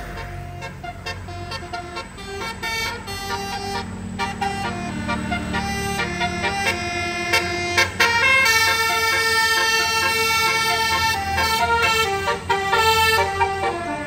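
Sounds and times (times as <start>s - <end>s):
bus engine humming: 0.0s - 14.0s
musical air horn tune: 0.0s - 14.0s.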